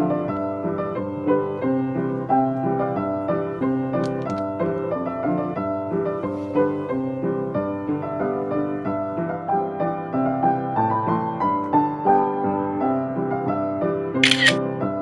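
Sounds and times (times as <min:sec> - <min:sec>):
gentle piano melody: 0:00.0 - 0:13.9.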